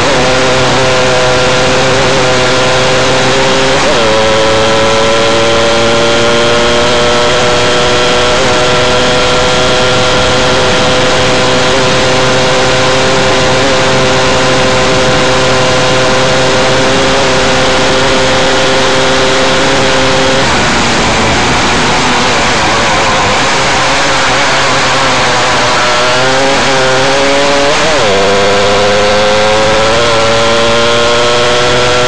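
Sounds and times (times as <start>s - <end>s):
race car engine high-revving: 0.0s - 32.0s.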